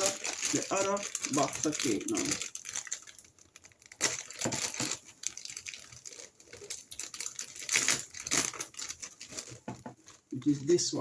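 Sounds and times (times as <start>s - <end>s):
packaging clicking and rustling: 0.0s - 11.0s.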